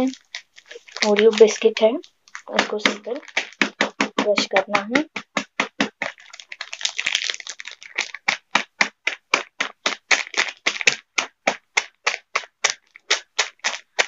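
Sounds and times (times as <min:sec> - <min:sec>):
biscuits crunching under pestle: 0:00.0 - 0:14.0
plastic wrapper crinkling: 0:00.0 - 0:14.0.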